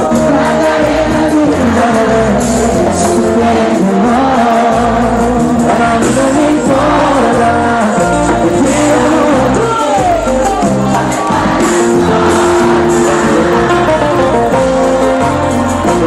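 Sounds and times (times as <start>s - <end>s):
live cumbia band music: 0.0s - 16.0s.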